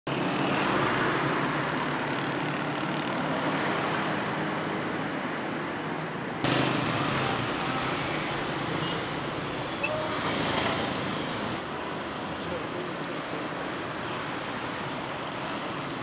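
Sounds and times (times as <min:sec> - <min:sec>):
car and bus engines: 0:00.1 - 0:16.0.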